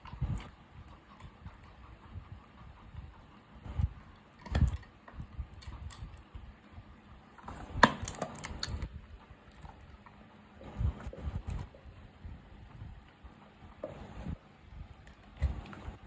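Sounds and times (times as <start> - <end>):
animal chewing meat: 0.0 - 16.0.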